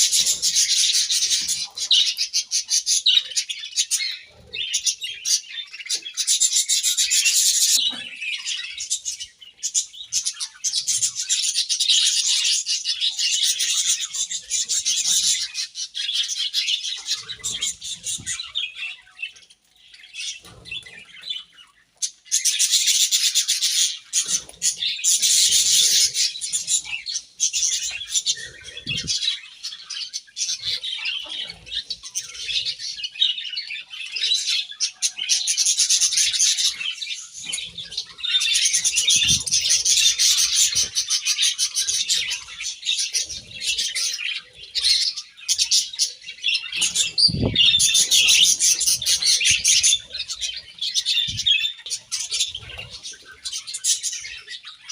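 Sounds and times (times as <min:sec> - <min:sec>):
budgerigars chirping: 0:00.0 - 0:54.9.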